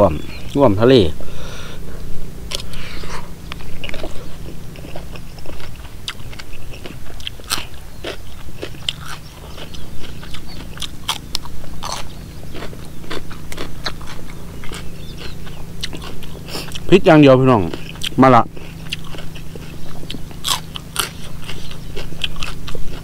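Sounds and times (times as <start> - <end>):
man chewing crunchy food: 0.3 - 23.0.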